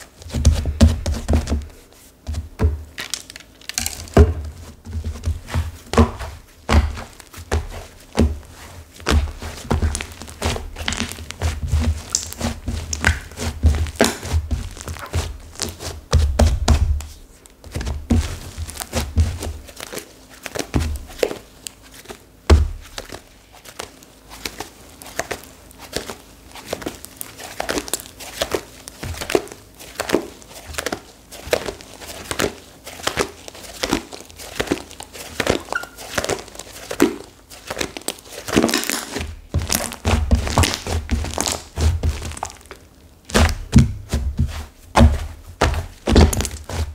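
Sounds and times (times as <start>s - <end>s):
clay slime crackling: 0.0s - 46.9s.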